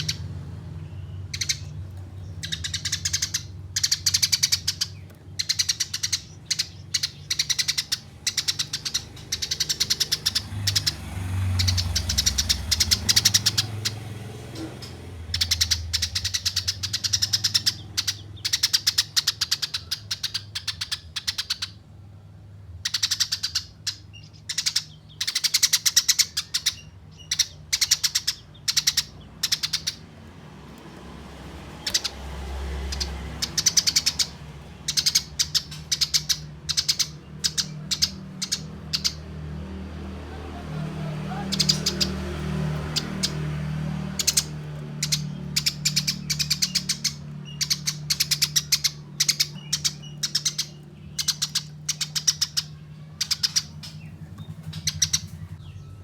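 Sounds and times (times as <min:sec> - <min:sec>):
sparrows chattering: 0:00.0 - 0:56.0.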